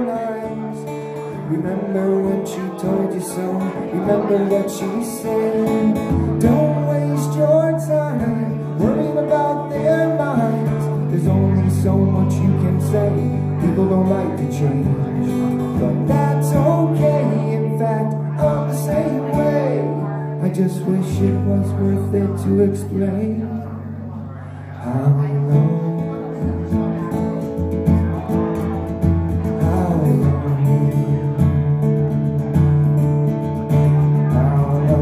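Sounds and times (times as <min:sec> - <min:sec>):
man singing: 0:00.0 - 0:32.2, 0:33.4 - 0:35.0
acoustic guitar strumming: 0:00.0 - 0:35.0.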